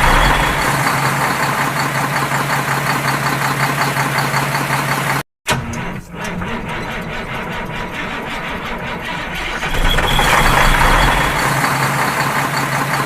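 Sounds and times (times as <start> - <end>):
vehicle engine pulsing: 0.0 - 13.0.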